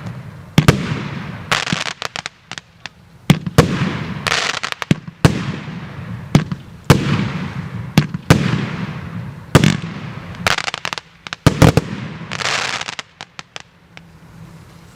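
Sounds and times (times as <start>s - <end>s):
fireworks banging with hiss: 0.0s - 14.9s
long firework hissing burst: 0.0s - 14.9s.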